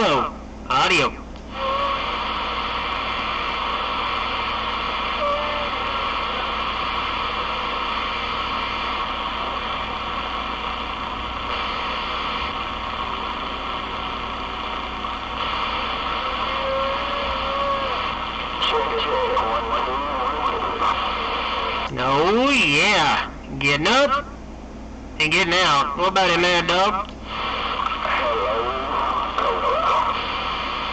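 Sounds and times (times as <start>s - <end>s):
radio static hiss: 0.0s - 24.5s, 25.1s - 30.9s.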